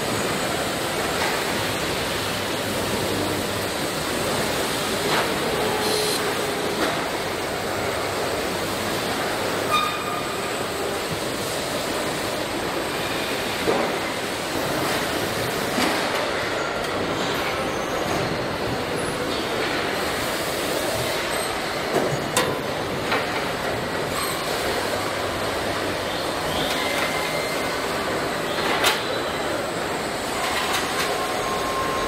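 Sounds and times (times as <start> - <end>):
machinery and conveyors din: 0.0 - 32.0.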